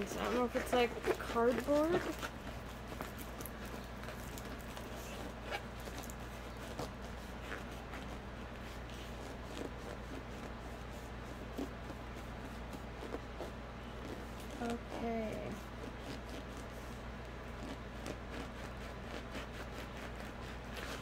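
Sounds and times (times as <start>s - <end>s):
steady low hum: 0.0s - 21.0s
ticks and rustles of handling: 0.0s - 21.0s.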